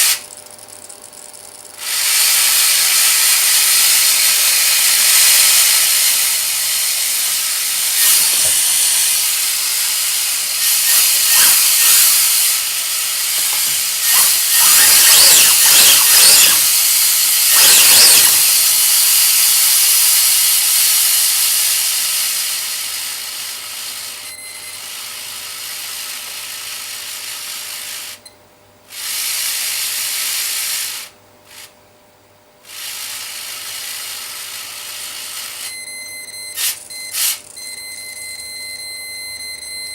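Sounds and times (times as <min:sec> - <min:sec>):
small motor whirring with rattle: 0:00.0 - 0:28.3, 0:28.9 - 0:31.8, 0:32.6 - 0:35.8, 0:36.4 - 0:37.6.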